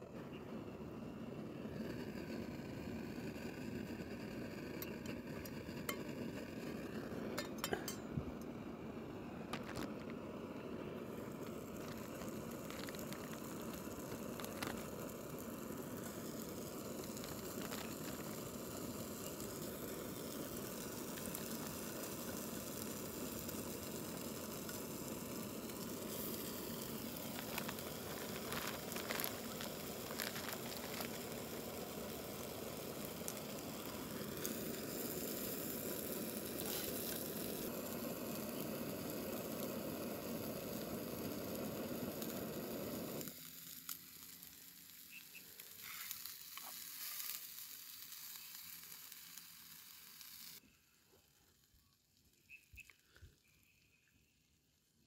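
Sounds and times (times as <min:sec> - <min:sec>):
chicken sizzling in pan: 0:01.0 - 0:53.9.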